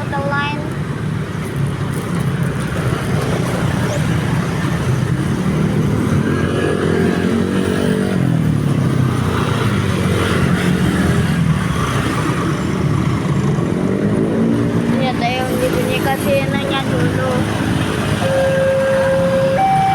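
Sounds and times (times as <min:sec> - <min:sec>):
motorcycles and cars passing: 0:00.0 - 0:19.9.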